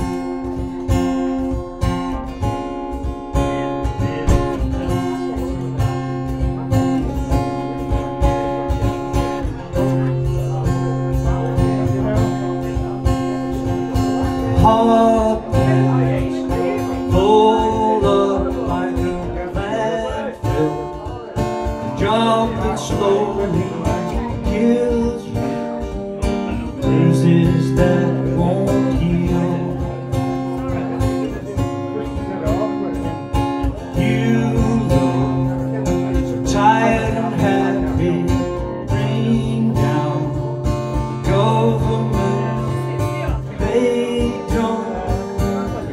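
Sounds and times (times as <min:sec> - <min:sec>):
acoustic guitar accompaniment: 0:00.0 - 0:45.9
man singing: 0:00.0 - 0:45.9.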